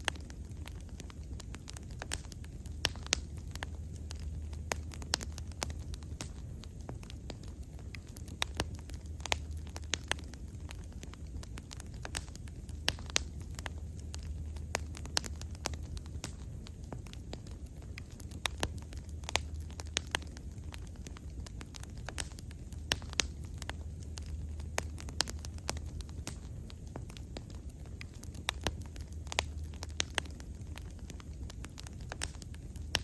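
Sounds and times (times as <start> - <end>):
low rumble of flames: 0.0 - 33.0
wood crackling and popping: 0.0 - 33.0.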